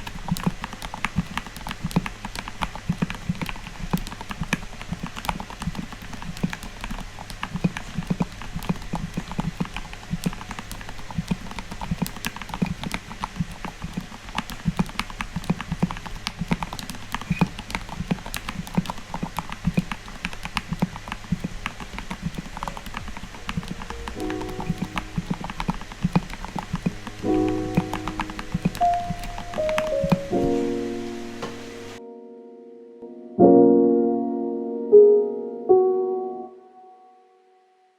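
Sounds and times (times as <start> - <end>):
mechanical keyboard keystroke clacks: 0.0 - 31.7.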